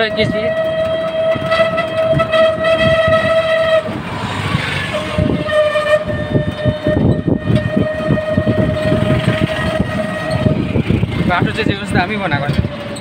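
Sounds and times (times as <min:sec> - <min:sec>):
rattling and bumping from road: 0:00.0 - 0:13.0
rickshaw engine whine: 0:00.0 - 0:13.0.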